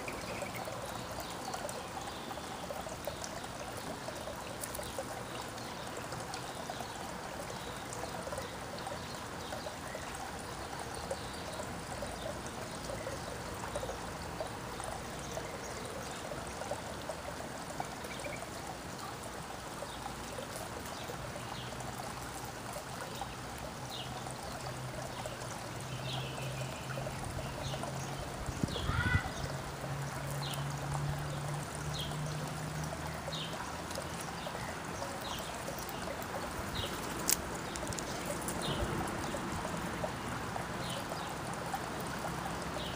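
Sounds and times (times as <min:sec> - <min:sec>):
trickle of running water: 0:00.0 - 0:42.9.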